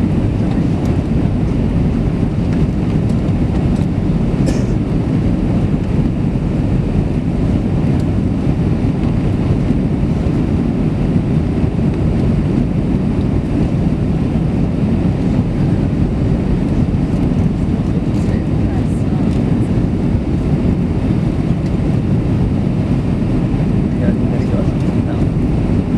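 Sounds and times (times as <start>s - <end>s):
aircraft cabin rumble: 0.0s - 25.9s.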